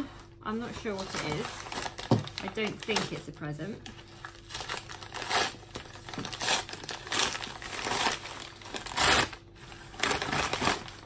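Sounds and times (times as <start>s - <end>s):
packaging torn open and crinkled: 1.0s - 3.3s, 3.9s - 11.0s.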